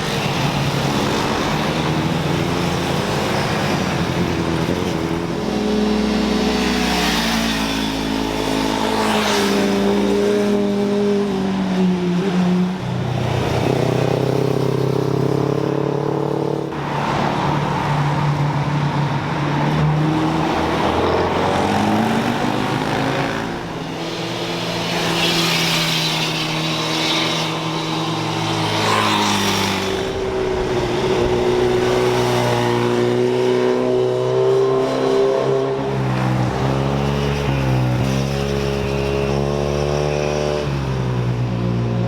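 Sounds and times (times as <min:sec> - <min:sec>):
cars and motorbikes accelerating past: 0:00.0 - 0:42.0.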